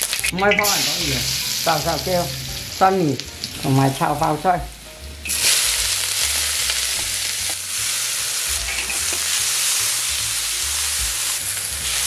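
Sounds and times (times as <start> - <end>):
cabbage sizzling in a wok: 0.0 - 12.0.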